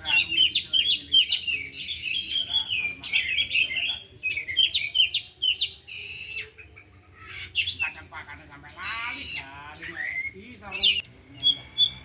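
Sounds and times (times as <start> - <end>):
birds singing chirps and whistles: 0.0 - 12.0.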